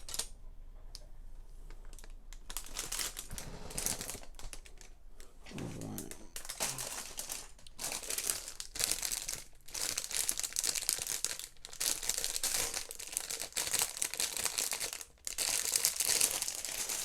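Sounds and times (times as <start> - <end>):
plastic bags crinkling: 0.0 - 0.3, 1.8 - 17.0.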